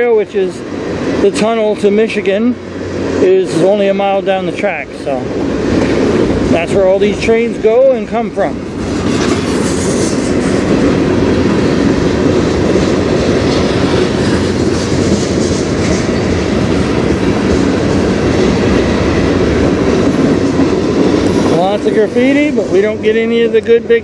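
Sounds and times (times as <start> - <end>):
steel wheels rumbling on rails: 0.0 - 24.0.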